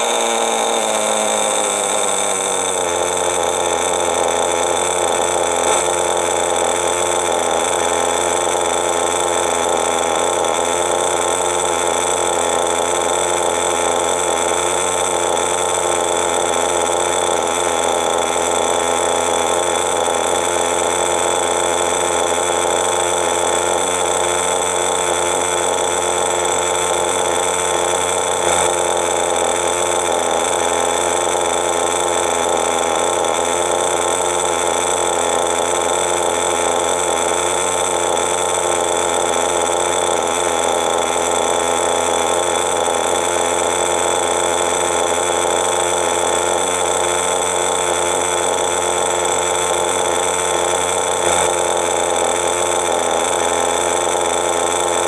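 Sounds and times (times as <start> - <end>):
model engine running steadily: 0.0 - 55.0.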